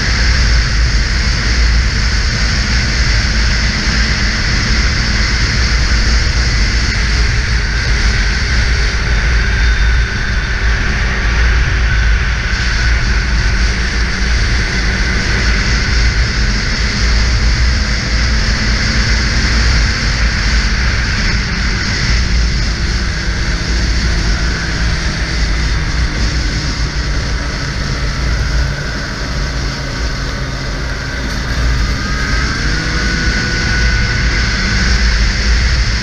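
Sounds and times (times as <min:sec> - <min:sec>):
snowmobile engine droning: 0:00.0 - 0:36.0
wind rumble on microphone: 0:00.0 - 0:36.0.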